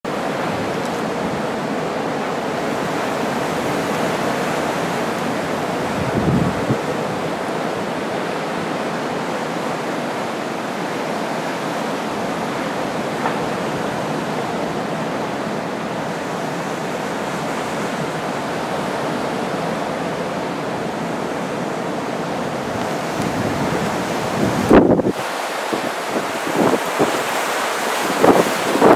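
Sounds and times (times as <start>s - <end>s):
strong blizzard wind: 0.1s - 28.9s.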